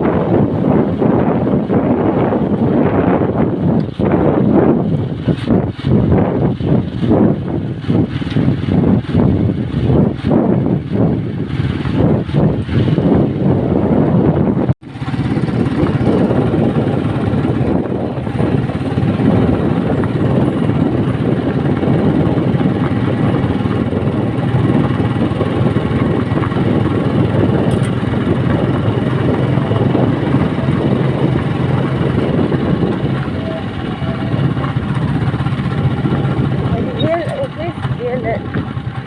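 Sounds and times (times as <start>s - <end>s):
road and wind noise: 0.0s - 39.0s
vehicle engine hum: 0.0s - 39.0s.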